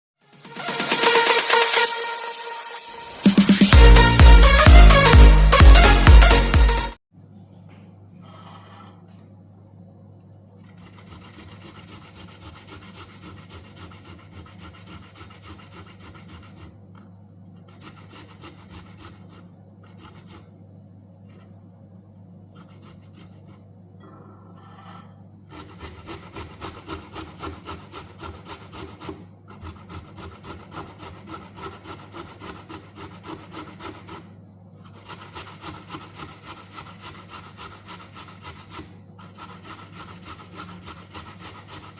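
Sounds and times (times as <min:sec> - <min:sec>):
ginger being grated: 0:00.3 - 0:06.8, 0:10.6 - 0:23.9, 0:24.6 - 0:41.9.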